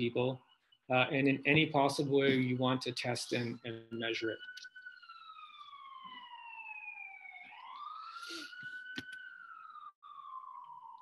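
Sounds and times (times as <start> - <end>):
faint siren wailing: 0.0 - 11.0.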